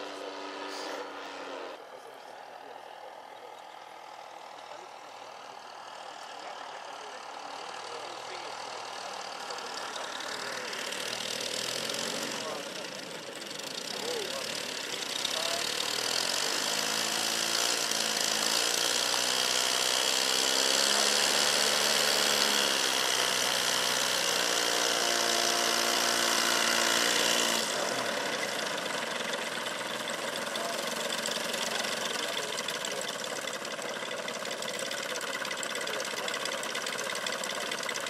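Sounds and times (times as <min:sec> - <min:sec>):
model plane engine idling: 0:00.0 - 0:38.0.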